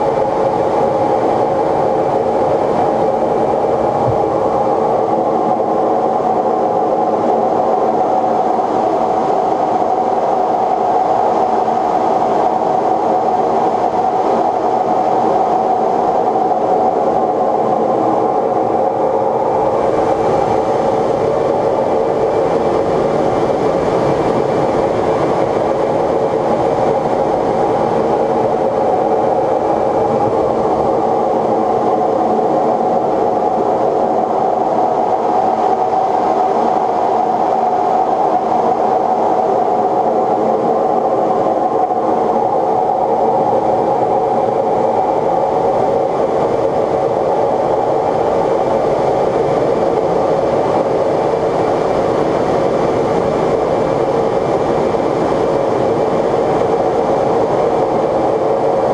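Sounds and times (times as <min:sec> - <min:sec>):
faint high steady whine: 0:00.0 - 0:58.9
jet cockpit roar in flight: 0:00.0 - 0:58.9.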